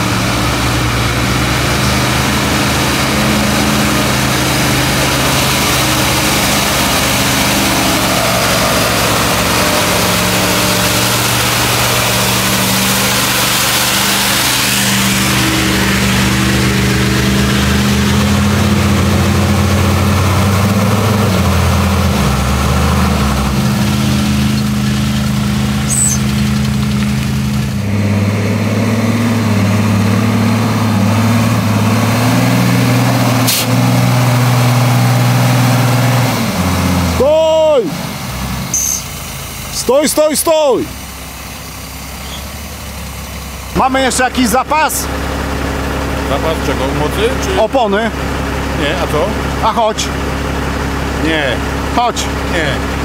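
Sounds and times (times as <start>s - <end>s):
truck engine droning: 0.0s - 53.0s.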